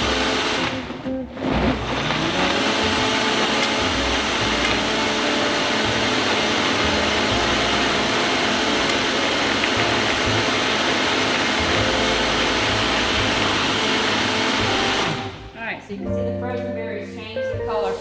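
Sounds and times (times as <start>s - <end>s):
blender running: 0.0s - 15.6s.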